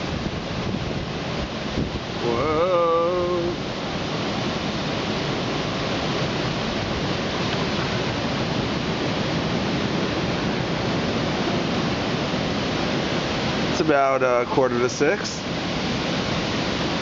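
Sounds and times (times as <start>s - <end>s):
hurricane wind blowing hard: 0.0s - 17.0s.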